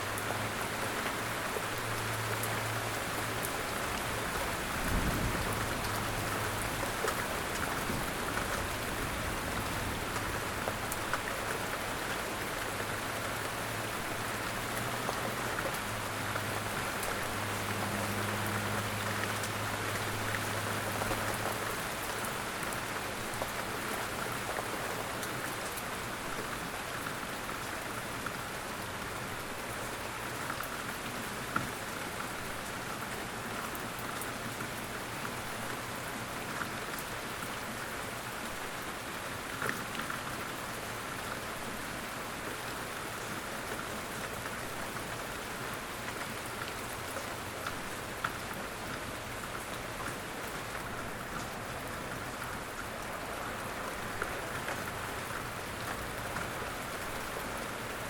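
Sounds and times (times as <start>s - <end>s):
light rain falling in woods: 0.0s - 58.0s.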